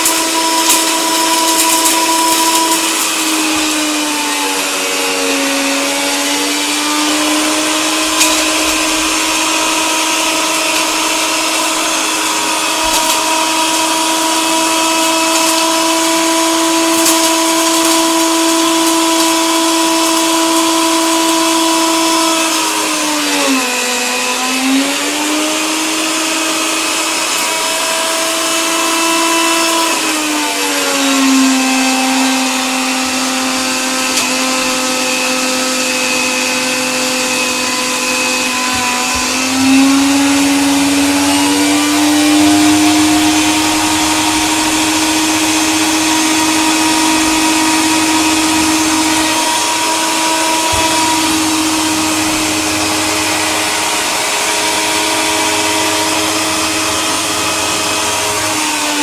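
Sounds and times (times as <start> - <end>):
electric coffee grinder running: 0.0 - 59.0.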